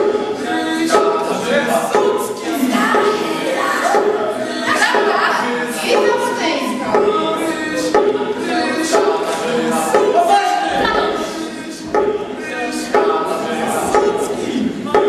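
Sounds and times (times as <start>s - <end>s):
voices singing a cappella chant: 0.0s - 15.0s.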